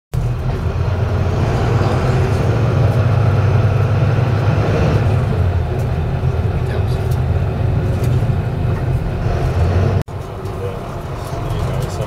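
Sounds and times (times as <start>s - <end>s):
jet engine rumble: 0.2s - 12.0s.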